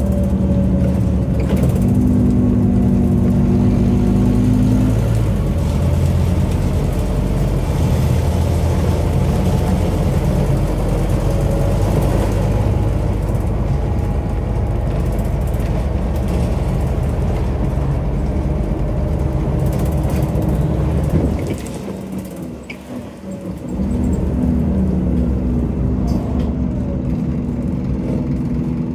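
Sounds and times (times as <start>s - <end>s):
bus diesel engine running: 0.0s - 28.9s.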